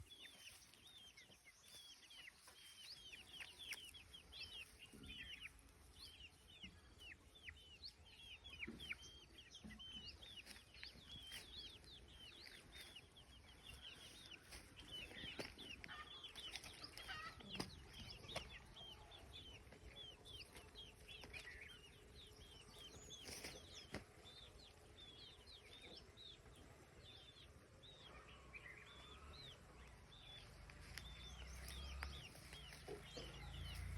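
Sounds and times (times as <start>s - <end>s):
chicks peeping: 0.0s - 33.9s.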